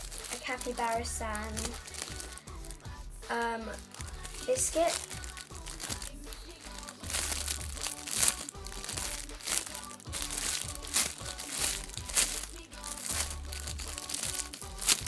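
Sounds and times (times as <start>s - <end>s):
plastic packaging crinkling: 0.0s - 2.8s, 3.8s - 15.0s
background music: 0.0s - 15.0s.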